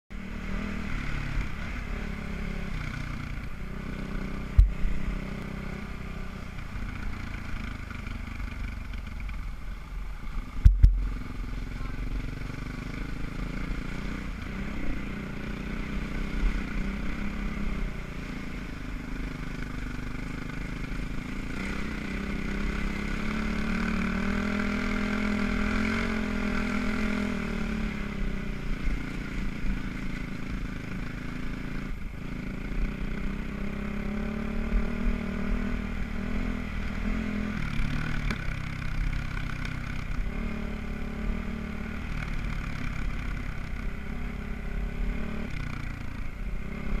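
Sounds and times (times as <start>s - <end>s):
motorcycle engine revving: 0.1s - 47.0s.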